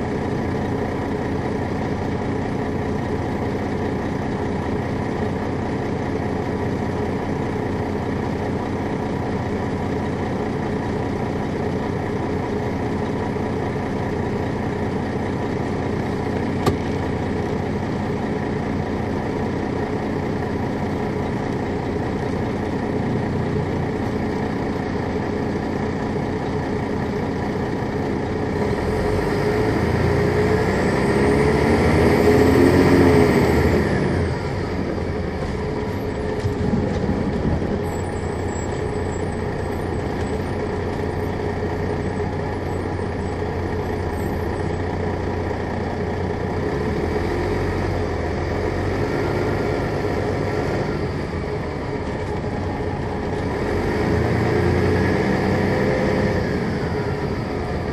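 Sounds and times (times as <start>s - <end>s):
diesel coach engine running: 0.0s - 57.9s.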